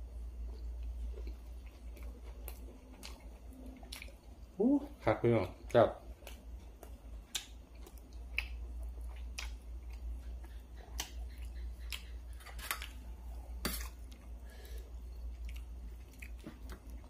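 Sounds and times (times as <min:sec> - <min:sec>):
steady low hum: 0:00.0 - 0:17.0
person chewing food: 0:00.1 - 0:04.6, 0:05.6 - 0:17.0.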